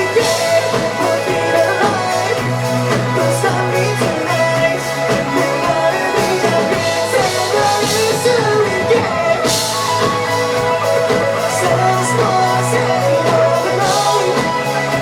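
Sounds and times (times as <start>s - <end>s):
drum kit: 0.0s - 15.0s
electric guitar: 0.0s - 15.0s
melodic lead line: 0.0s - 15.0s.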